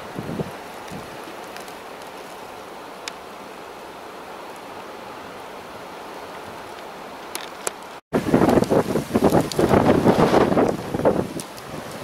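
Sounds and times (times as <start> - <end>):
hiss of wind-driven snow: 0.0 - 7.2, 8.2 - 12.0.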